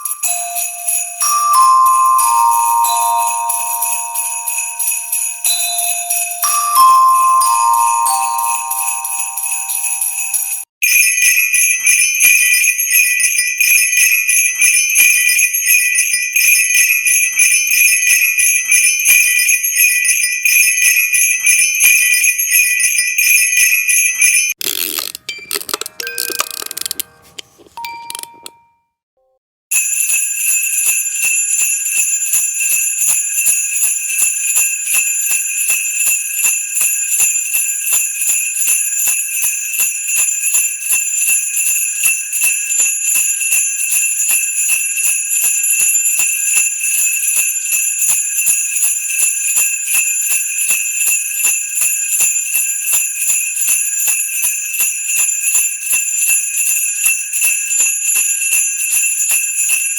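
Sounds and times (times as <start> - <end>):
jingle bells shaken: 0.0 - 24.6, 29.7 - 59.9.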